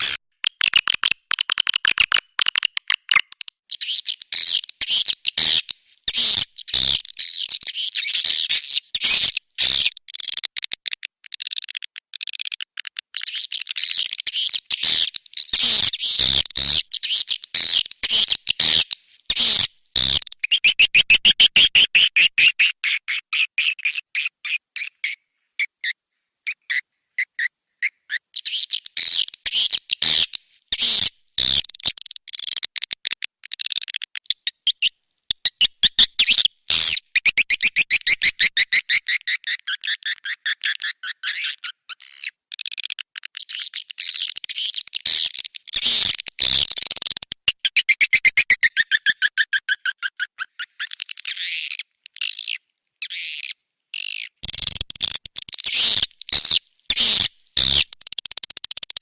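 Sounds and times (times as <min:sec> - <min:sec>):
high bird chirps and twitters: 0:00.0 - 0:59.0.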